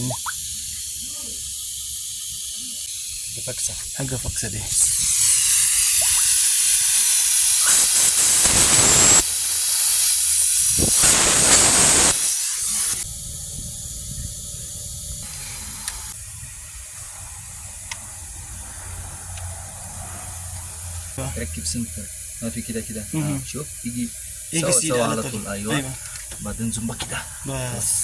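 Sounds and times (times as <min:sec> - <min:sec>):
compressed air hissing: 0:00.0 - 0:13.2, 0:13.9 - 0:28.0.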